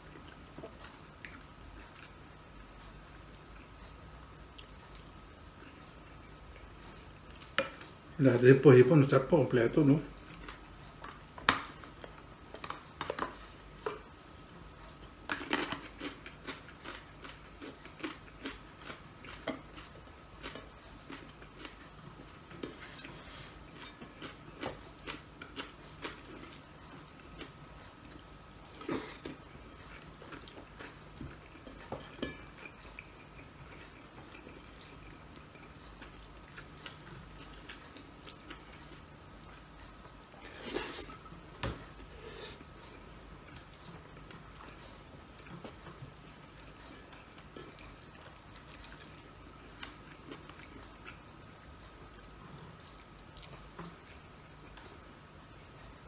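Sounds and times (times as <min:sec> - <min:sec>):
chewing: 0:00.0 - 0:08.0, 0:10.1 - 0:56.0
faint steady hum: 0:00.0 - 0:56.0.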